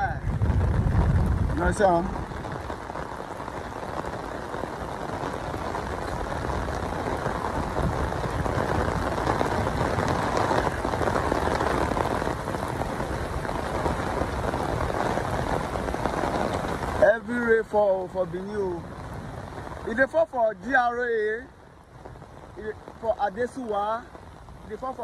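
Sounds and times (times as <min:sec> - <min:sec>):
heavy rain on wet road: 0:00.0 - 0:25.0.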